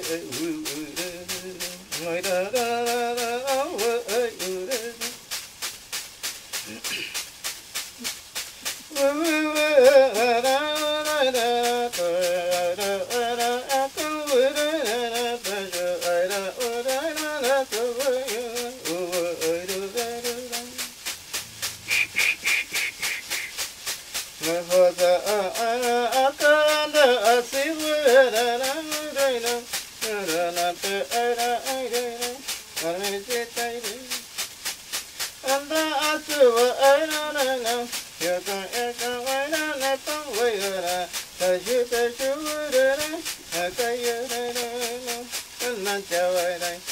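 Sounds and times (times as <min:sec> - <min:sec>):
person singing a chant: 0:00.0 - 0:05.2, 0:08.9 - 0:20.9, 0:24.4 - 0:34.2, 0:35.4 - 0:46.9
rattle shaken in fast beat: 0:00.0 - 0:46.9.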